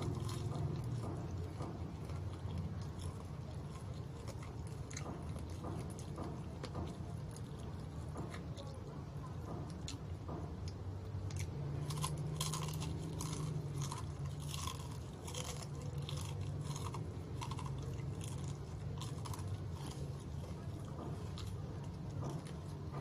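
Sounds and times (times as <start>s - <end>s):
crunchy chewing of fried chicken: 0.0s - 23.0s.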